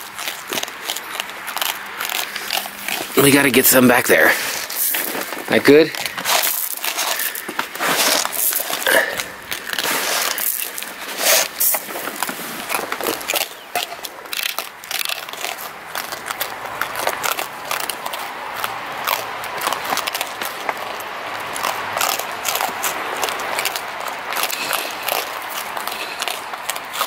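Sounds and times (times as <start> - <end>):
raccoons crunching dry kibble: 0.0 - 27.0.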